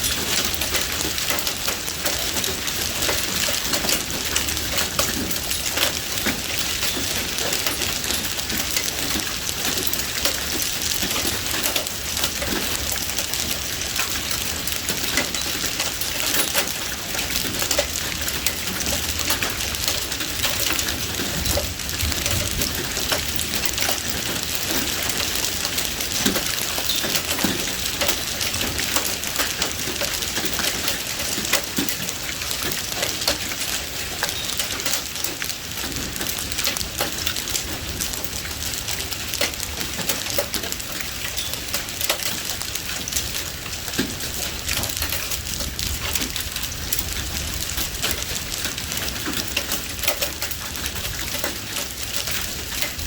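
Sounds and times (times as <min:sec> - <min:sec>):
heavy rain on hard surface: 0:00.0 - 0:53.0.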